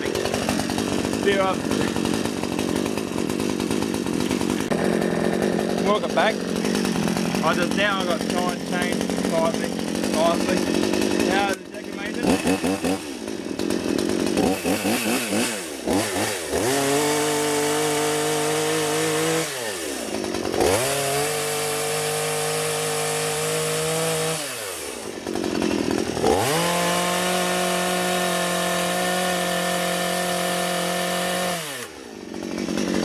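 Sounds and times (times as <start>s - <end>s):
chainsaw revving while cutting wood: 0.0s - 33.0s.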